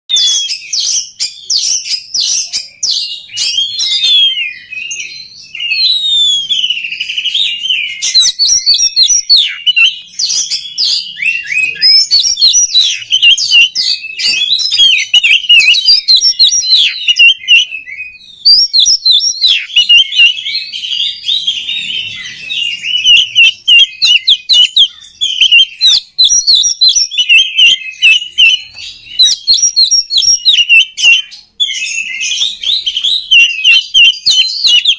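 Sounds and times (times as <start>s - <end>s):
bird singing whistles and trills: 0.1s - 34.9s.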